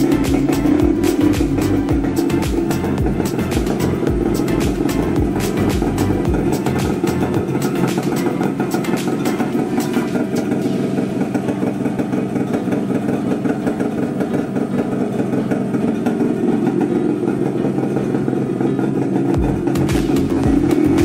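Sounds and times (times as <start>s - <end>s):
two-stroke motorcycle engine idling: 0.0s - 21.0s.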